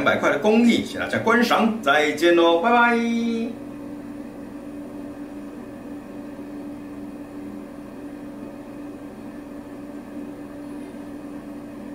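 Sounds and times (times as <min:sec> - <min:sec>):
steady low hum with hiss: 0:00.0 - 0:11.9.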